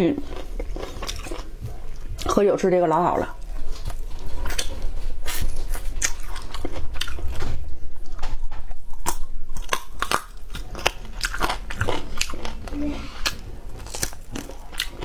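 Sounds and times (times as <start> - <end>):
person chewing crunchy food: 0.0 - 2.4, 3.2 - 15.0.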